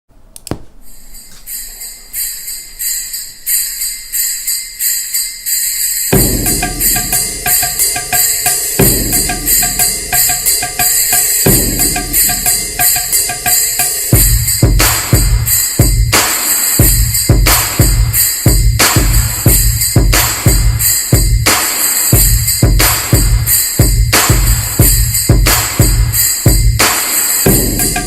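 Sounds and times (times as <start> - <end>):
rhythmic beat: 0.5 - 28.0
jingling bell-like high part: 0.9 - 28.0.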